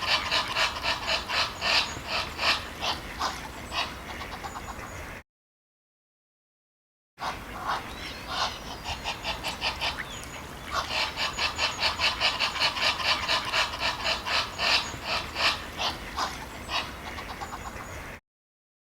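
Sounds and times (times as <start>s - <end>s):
ducks quacking: 0.0s - 5.2s, 7.2s - 18.2s.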